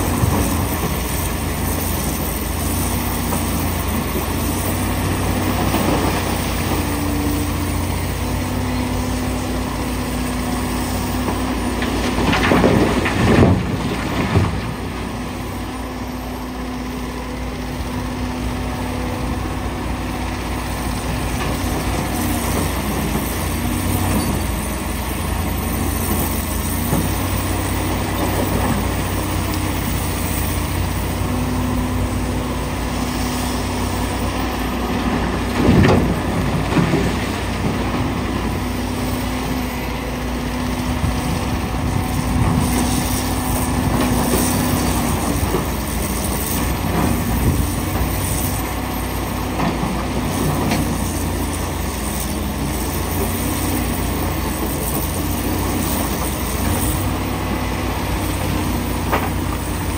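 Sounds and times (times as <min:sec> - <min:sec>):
excavator diesel engine and hydraulics: 0:00.0 - 0:59.9.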